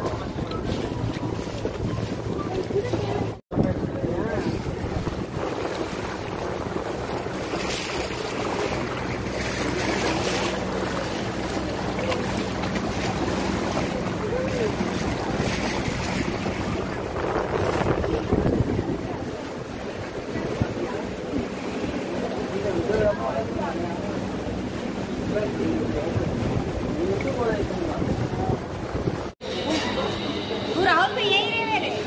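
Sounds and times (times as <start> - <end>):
wind buffeting microphone: 0.0 - 29.4.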